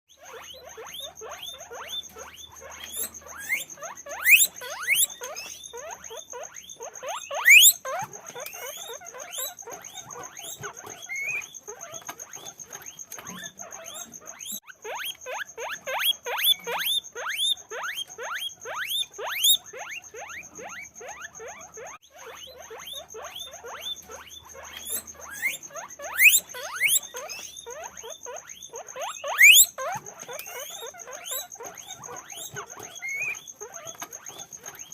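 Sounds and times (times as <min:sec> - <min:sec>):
guinea pigs wheeking: 0:00.1 - 0:34.9.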